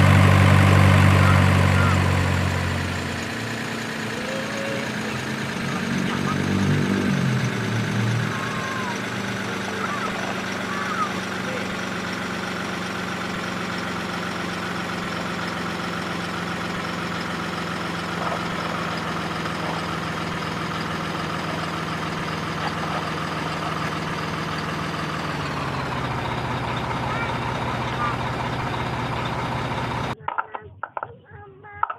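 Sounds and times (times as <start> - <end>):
engine humming: 0.0 - 31.9.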